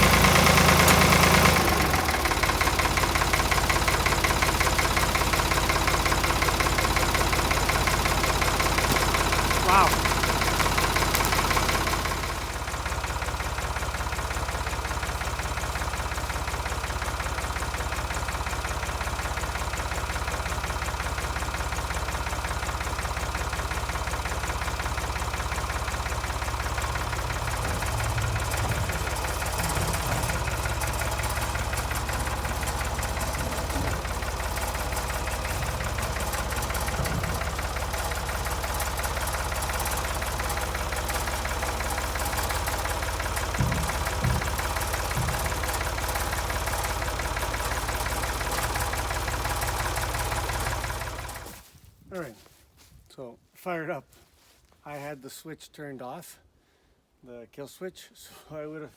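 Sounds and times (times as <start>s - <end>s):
backhoe engine idling: 0.0s - 51.7s.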